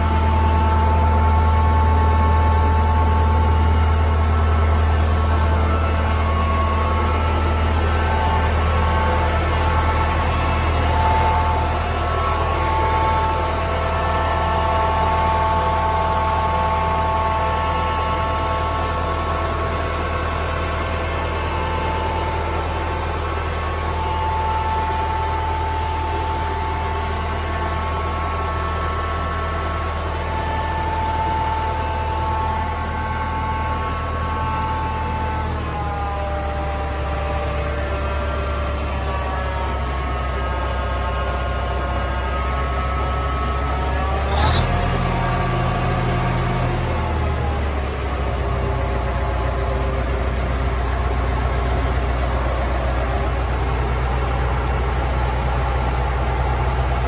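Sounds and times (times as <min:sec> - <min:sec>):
crane engine idling with whine: 0:00.0 - 0:57.0.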